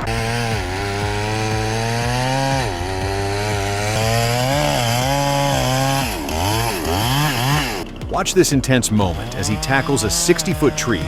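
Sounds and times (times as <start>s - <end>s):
chainsaw running at high revs: 0.0s - 11.0s.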